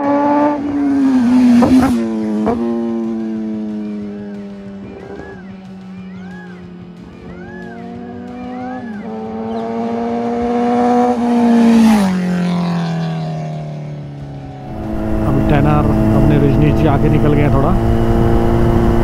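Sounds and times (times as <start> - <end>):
motorcycle passing at high revs: 0.0 - 19.0.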